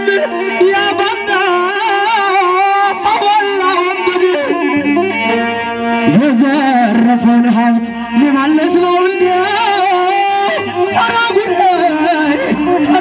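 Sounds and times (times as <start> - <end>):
man chanting: 0.0 - 5.3, 5.9 - 13.0.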